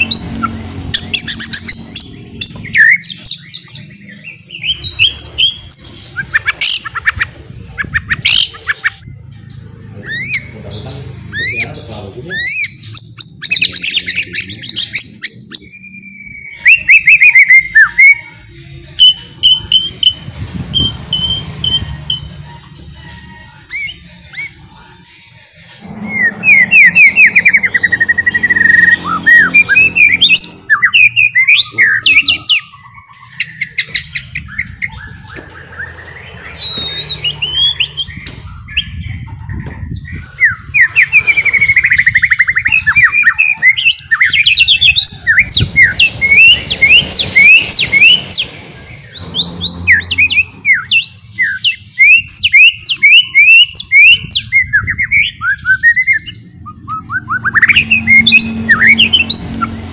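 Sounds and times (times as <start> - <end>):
bird singing rapid chirps and trills: 0.0 - 59.9.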